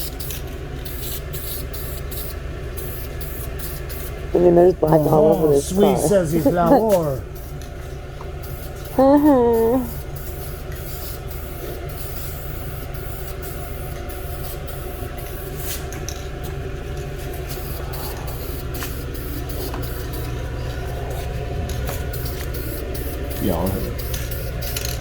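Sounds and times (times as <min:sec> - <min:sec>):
machine humming and hissing: 0:00.0 - 0:25.0.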